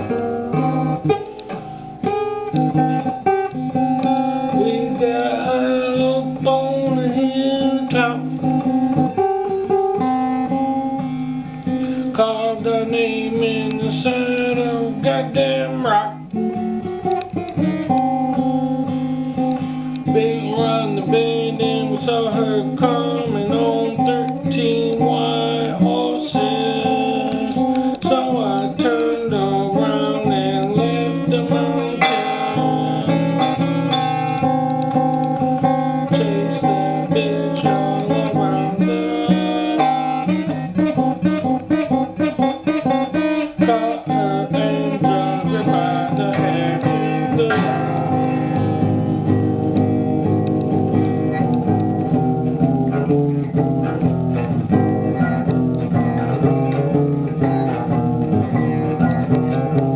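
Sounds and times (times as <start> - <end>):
acoustic guitar riff: 0.0 - 59.9.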